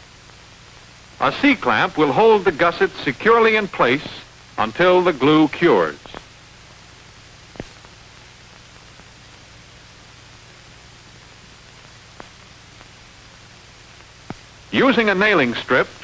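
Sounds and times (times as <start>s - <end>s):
film soundtrack hiss: 0.0s - 16.0s.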